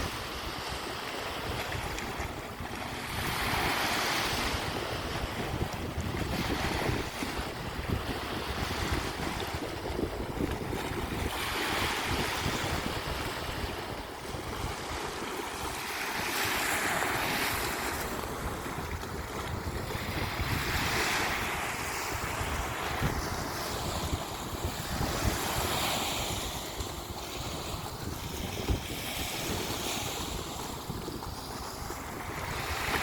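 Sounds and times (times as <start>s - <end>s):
sea waves breaking on beach: 0.0s - 33.0s
wind rumble on microphone: 0.0s - 33.0s.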